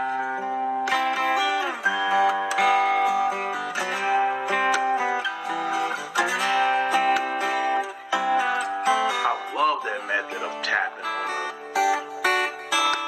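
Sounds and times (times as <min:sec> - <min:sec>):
fingerstyle acoustic guitar: 0:00.0 - 0:13.0.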